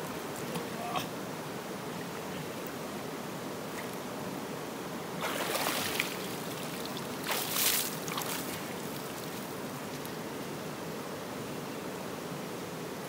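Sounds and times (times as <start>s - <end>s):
creek water over rocks: 0.0s - 11.0s.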